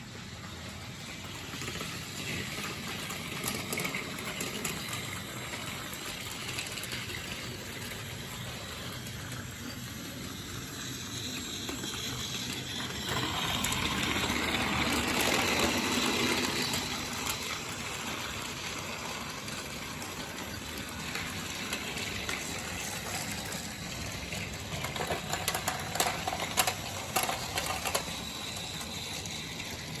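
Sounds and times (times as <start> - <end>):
toy train mechanical whir: 0.0 - 30.0.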